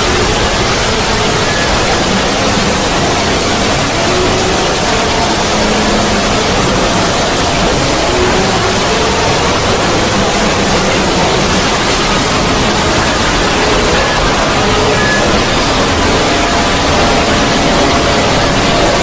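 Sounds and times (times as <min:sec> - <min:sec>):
broadband noise wash: 0:00.0 - 0:19.0.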